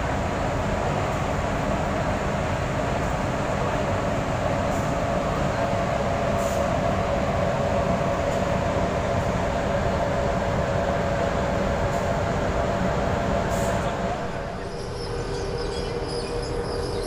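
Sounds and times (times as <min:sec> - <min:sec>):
machinery rumble and hum: 0:00.0 - 0:17.0.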